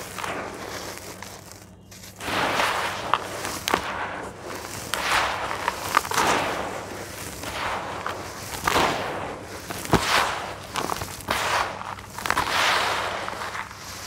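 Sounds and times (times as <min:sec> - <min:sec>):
clay lumps crackling: 0:00.0 - 0:14.0
hands crumbling dry clay: 0:00.0 - 0:14.0.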